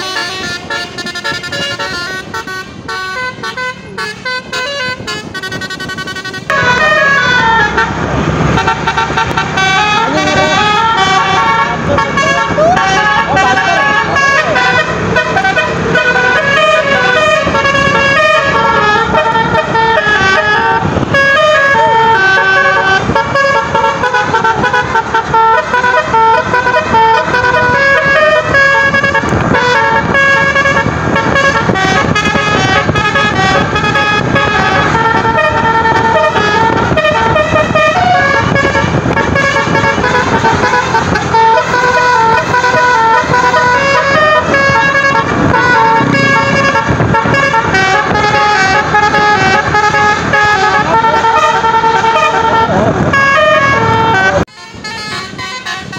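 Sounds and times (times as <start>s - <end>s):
bus multi-tone horn melody: 0.0s - 55.9s
vehicle engine noise: 0.0s - 55.9s.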